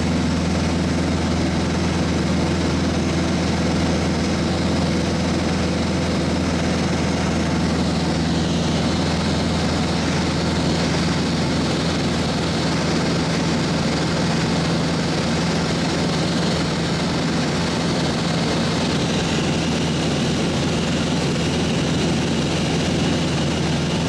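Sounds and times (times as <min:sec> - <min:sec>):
propeller engine drone: 0:00.0 - 0:24.0.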